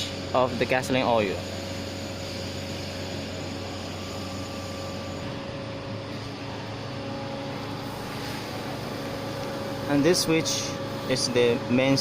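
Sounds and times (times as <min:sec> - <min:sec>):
machinery hum with hiss: 0:00.0 - 0:12.0.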